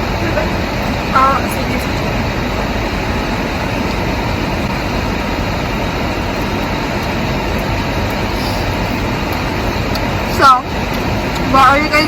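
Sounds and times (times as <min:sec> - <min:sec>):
car air-conditioning fan: 0:00.0 - 0:12.0
car engine running: 0:00.0 - 0:12.0.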